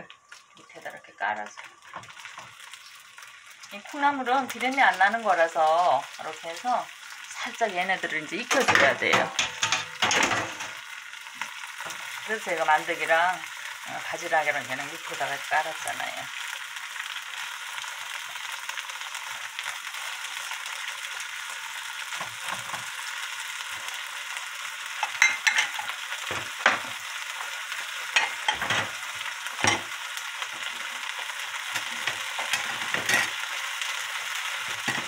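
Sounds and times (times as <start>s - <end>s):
sprouts sizzling in a frying pan: 0.0s - 35.0s.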